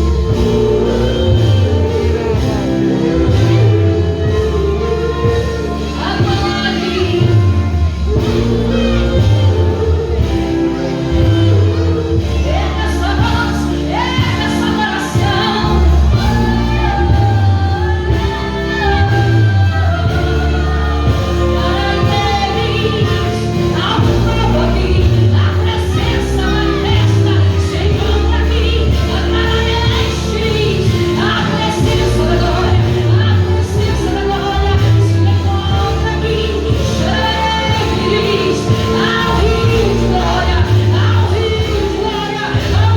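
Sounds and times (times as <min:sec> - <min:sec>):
group of singers: 0:00.0 - 0:42.9
worship band playing: 0:00.0 - 0:42.9.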